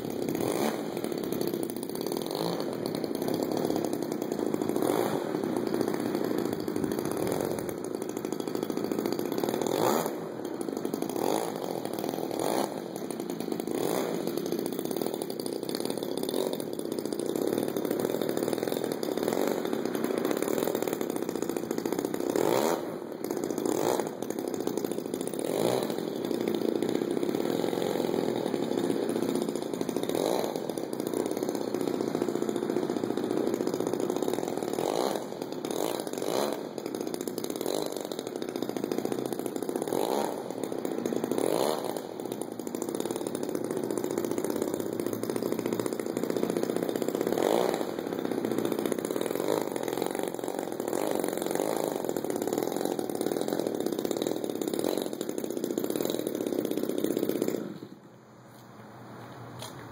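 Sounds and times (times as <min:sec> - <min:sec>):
model plane engine revving: 0:00.0 - 0:57.9.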